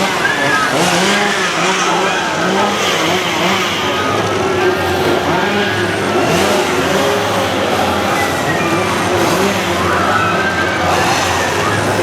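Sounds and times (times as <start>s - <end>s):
chainsaw engines revving: 0.0s - 12.0s.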